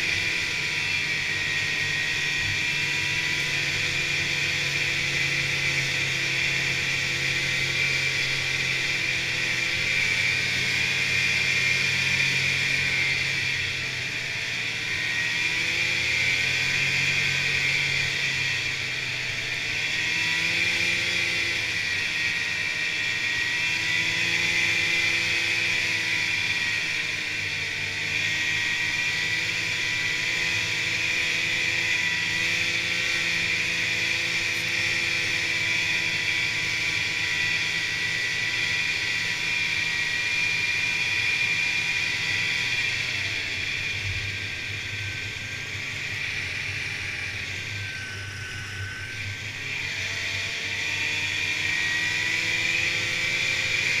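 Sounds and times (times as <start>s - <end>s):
snowmobile engine and track: 0.0s - 54.0s.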